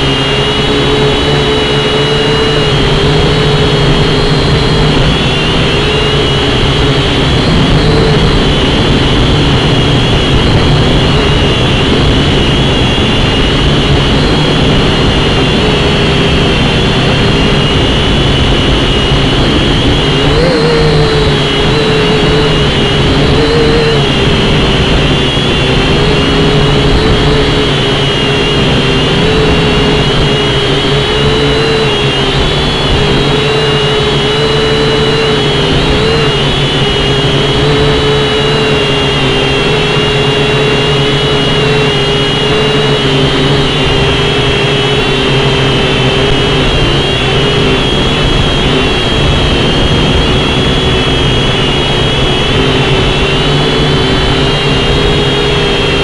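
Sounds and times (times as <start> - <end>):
drone propellers whining: 0.0 - 56.0
wind rumble on microphone: 0.0 - 56.0.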